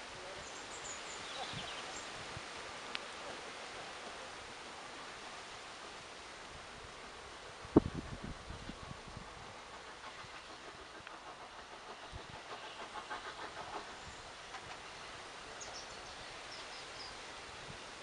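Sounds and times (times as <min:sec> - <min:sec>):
distant steam locomotive: 0:00.0 - 0:18.0.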